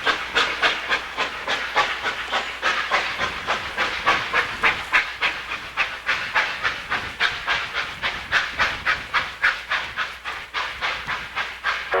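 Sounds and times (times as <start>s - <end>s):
steam locomotive chuffing: 0.0s - 12.0s.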